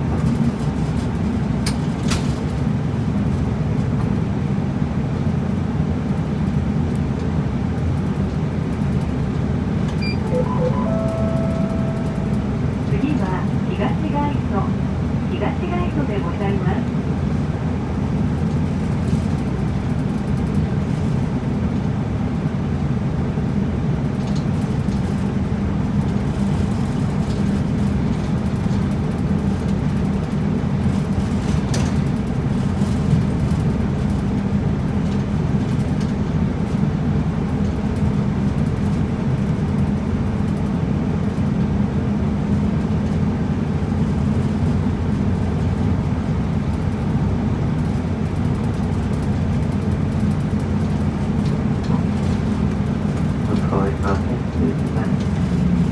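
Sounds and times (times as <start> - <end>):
bus engine hum: 0.0 - 55.9
road noise: 0.0 - 55.9.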